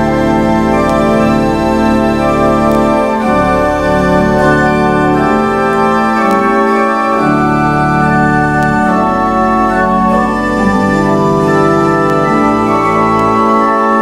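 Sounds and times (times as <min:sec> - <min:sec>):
organ playing hymn chords: 0:00.0 - 0:14.0.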